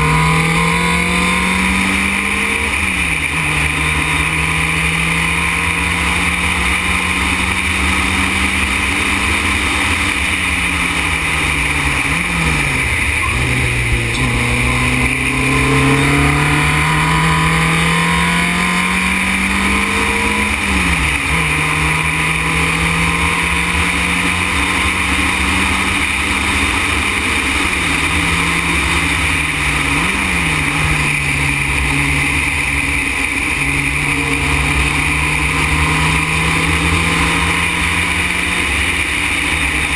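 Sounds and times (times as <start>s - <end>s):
race car engine accelerating: 0.0s - 39.9s
wind and road noise: 0.0s - 39.9s.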